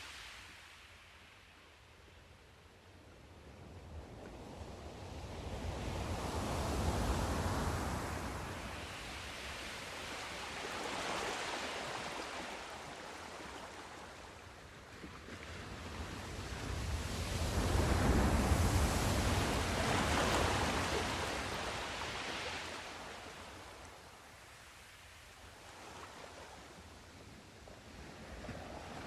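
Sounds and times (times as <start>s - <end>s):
waves breaking and washing in: 0.0s - 29.0s.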